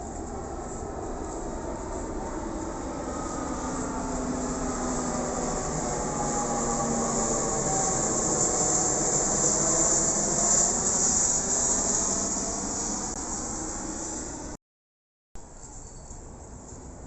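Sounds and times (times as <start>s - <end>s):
aircraft engine noise: 0.0s - 14.6s.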